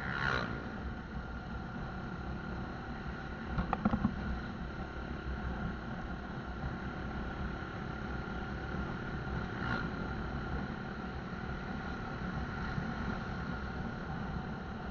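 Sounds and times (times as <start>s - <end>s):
motorcycle engine rumble: 0.0s - 14.9s
road and wind noise: 0.0s - 14.9s.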